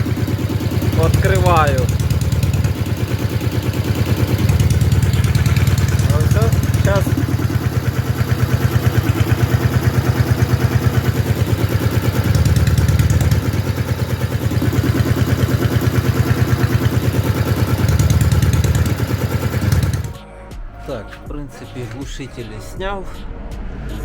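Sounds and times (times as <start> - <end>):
motorcycle engine exhaust beat: 0.0 - 24.0.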